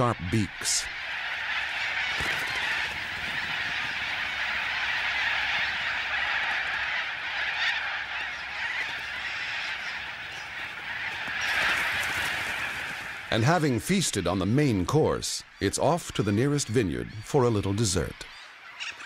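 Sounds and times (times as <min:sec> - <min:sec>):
flock of cockatoos calling: 0:00.0 - 0:19.0.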